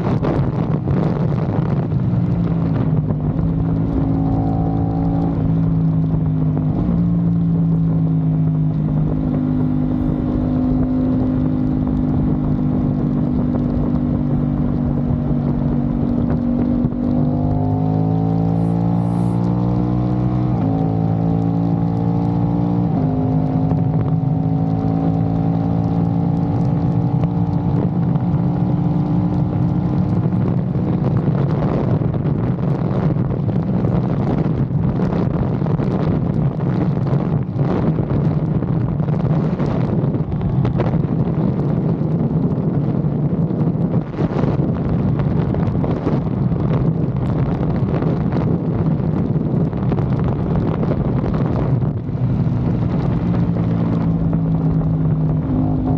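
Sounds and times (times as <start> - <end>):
motorcycle engine accelerating: 0.0 - 55.9
wind rushing over microphone: 0.0 - 55.9.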